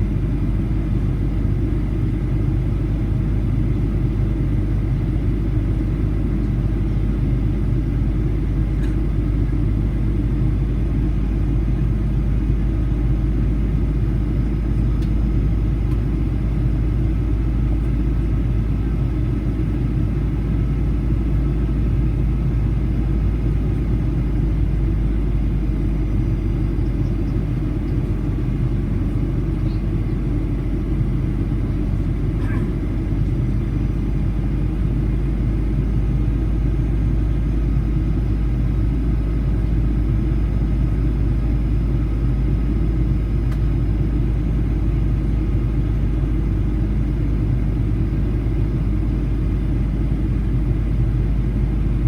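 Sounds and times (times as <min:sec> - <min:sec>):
airplane cabin drone: 0:00.0 - 0:52.0.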